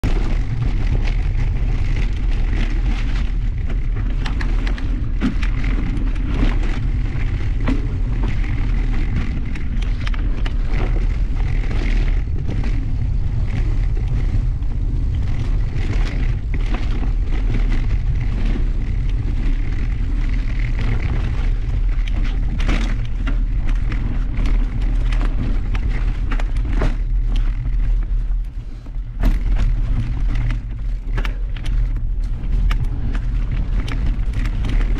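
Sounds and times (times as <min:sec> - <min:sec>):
bike clattering over bumps: 0:00.0 - 0:34.9
wind rumble on microphone: 0:00.0 - 0:34.9.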